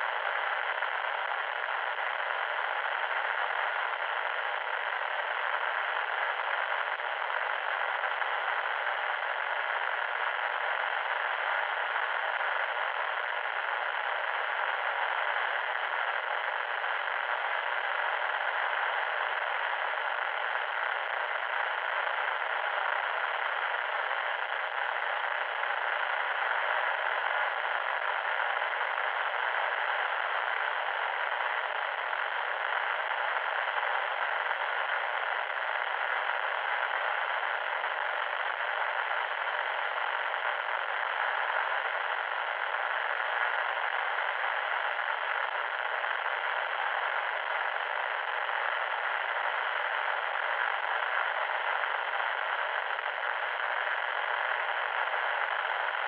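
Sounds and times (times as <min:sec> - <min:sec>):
static noise hiss: 0:00.0 - 0:56.0.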